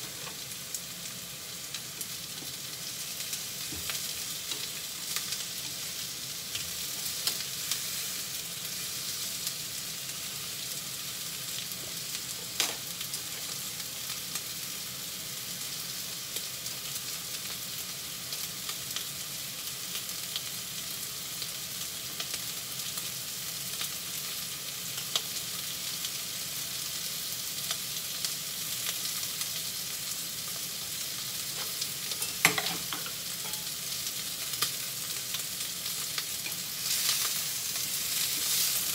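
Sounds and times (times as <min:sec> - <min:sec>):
meat sizzling in a frying pan: 0:00.0 - 0:38.9.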